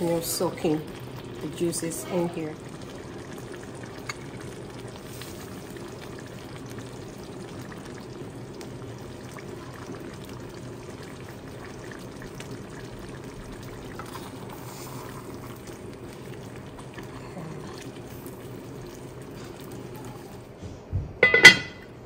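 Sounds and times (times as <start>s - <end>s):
pot of water boiling: 0.0s - 22.0s.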